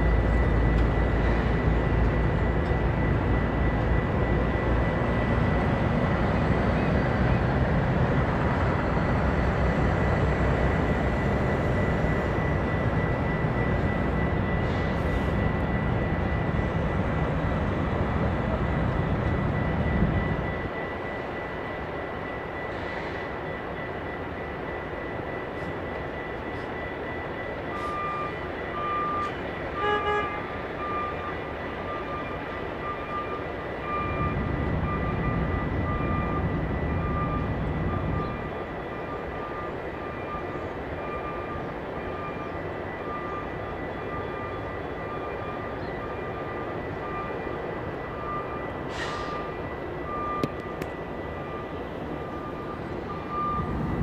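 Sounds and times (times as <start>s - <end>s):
diesel locomotives droning: 0.0s - 54.0s.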